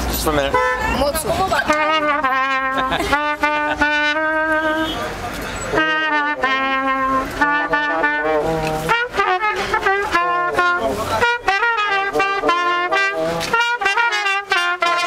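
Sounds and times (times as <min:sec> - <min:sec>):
brass band playing: 0:00.4 - 0:15.0.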